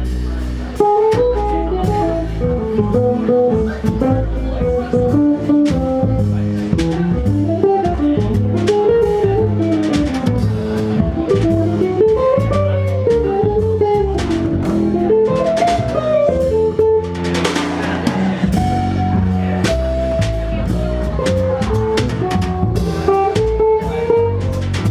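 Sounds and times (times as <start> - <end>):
bass: 0.0 - 24.9
drum kit: 0.0 - 24.9
jazz guitar melody: 0.0 - 24.9.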